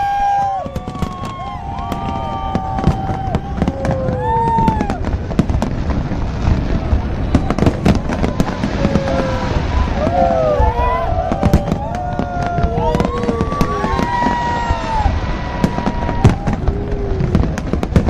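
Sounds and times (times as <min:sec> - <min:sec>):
crowd shouting and cheering: 0:00.0 - 0:05.7, 0:06.4 - 0:18.0
fireworks booming and crackling: 0:00.0 - 0:18.0.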